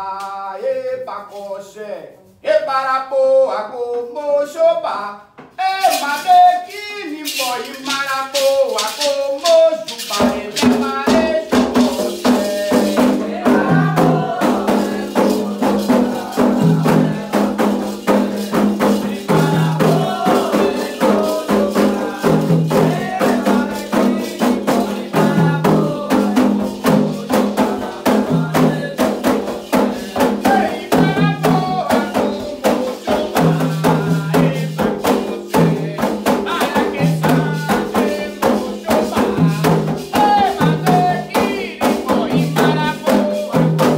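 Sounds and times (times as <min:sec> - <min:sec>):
people singing: 0:00.0 - 0:01.8, 0:05.6 - 0:43.9
shaken rattle: 0:01.0 - 0:02.6, 0:05.6 - 0:43.9
fast percussion rhythm: 0:05.5 - 0:43.9.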